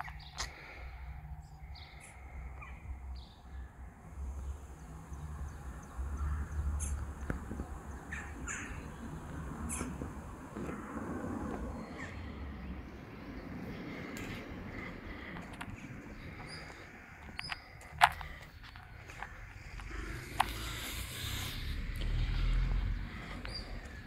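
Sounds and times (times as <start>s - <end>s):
birds chirping: 0.0s - 24.0s
steady low rumble: 1.0s - 24.0s.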